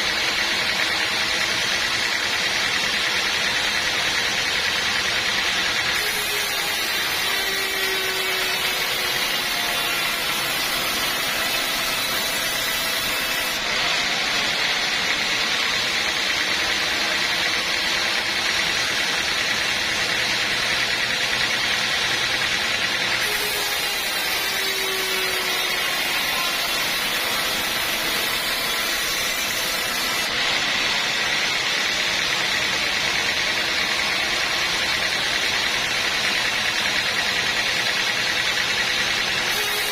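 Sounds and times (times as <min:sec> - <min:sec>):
sawmill machinery sawing wood: 0:00.0 - 0:39.9.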